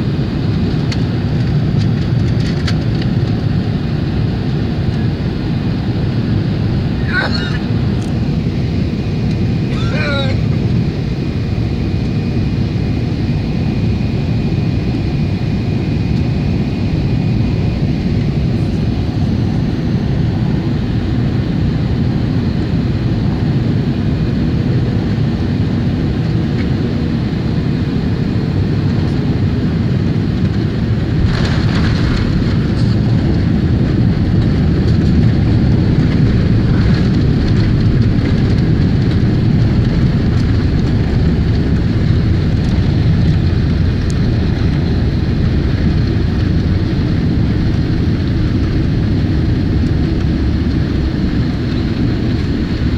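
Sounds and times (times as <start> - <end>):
airliner cabin noise: 0.0 - 52.9.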